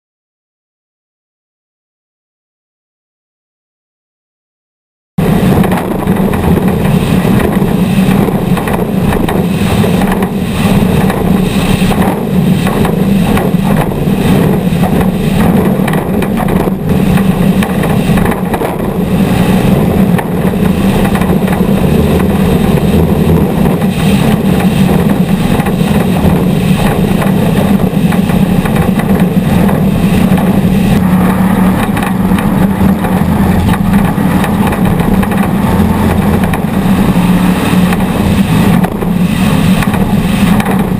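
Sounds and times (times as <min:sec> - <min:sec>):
race vehicle engines droning: 0:05.2 - 0:40.9.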